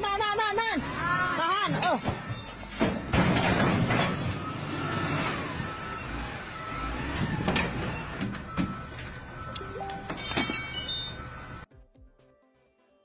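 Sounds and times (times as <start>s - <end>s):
truck engine rumbling: 0.0s - 11.7s.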